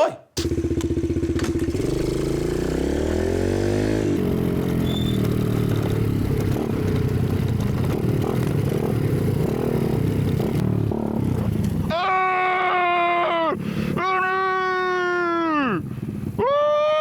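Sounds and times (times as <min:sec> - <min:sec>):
dirt bike engine revving: 0:00.4 - 0:14.6.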